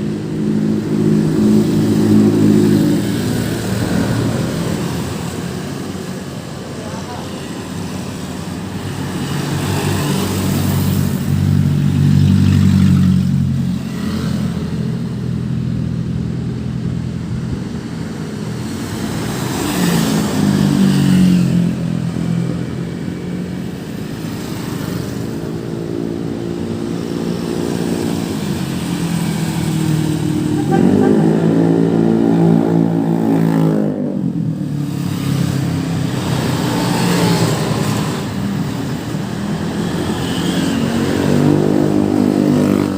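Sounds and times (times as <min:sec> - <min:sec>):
motorcycles passing: 0:00.0 - 0:42.9
road traffic passing: 0:00.0 - 0:42.9.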